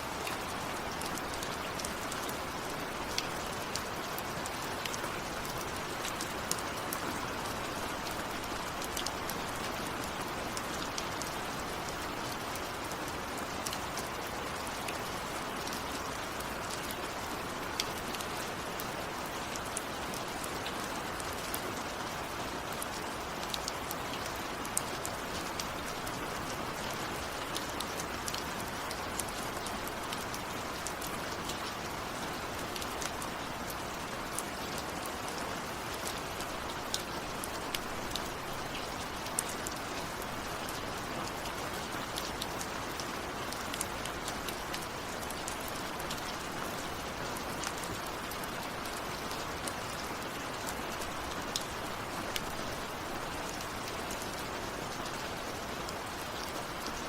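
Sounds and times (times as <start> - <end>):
raindrops ticking on surface: 0.0 - 57.0
steady rain hiss: 0.0 - 57.0.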